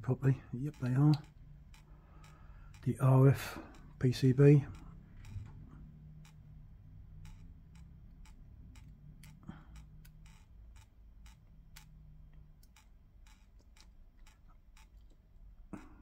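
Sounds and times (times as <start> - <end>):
clock ticking: 0.0 - 16.0.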